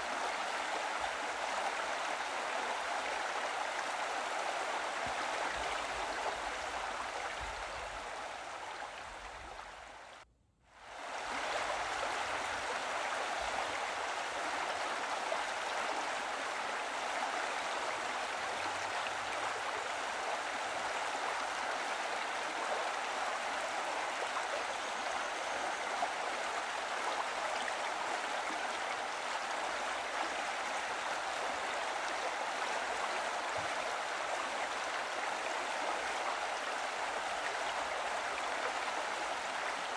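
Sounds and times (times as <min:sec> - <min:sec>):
running water: 0:00.0 - 0:10.2, 0:10.9 - 0:39.9.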